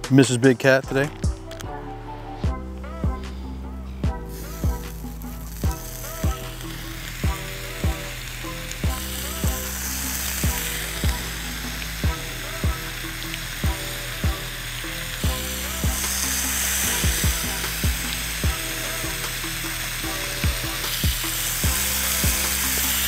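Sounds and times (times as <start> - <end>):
background music with thumping beat: 0.0 - 23.0
bacon sizzling on griddle: 4.3 - 23.0.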